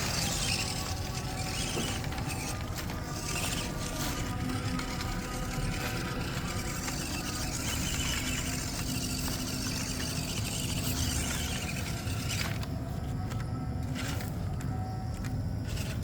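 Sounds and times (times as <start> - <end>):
toy car motor whirring: 0.0 - 14.4, 15.6 - 16.0.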